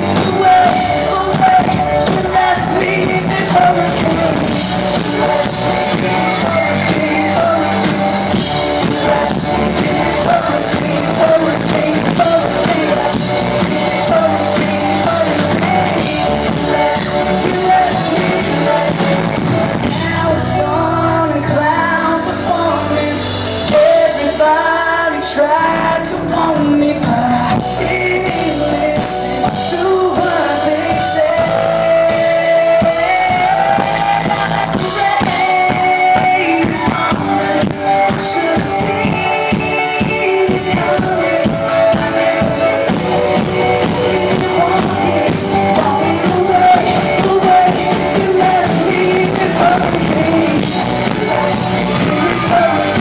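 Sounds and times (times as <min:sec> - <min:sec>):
live pop-rock band playing: 0:00.0 - 0:53.0.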